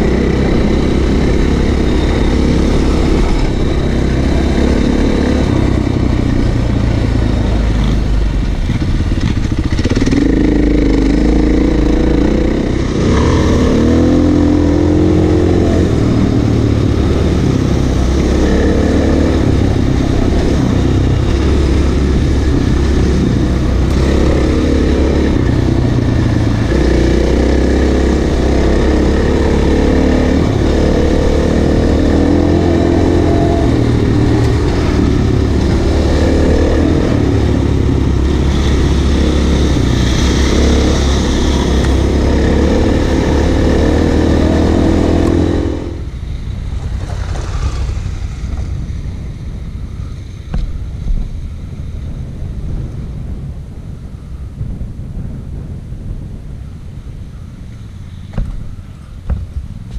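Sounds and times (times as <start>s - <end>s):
motorcycle engine running: 0.0s - 59.9s
rushing noise: 0.0s - 59.9s.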